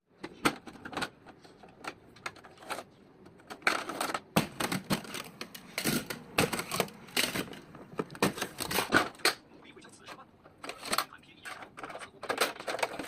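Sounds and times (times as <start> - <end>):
hard plastic clicking and rattling: 0.1 - 9.4, 10.0 - 13.0.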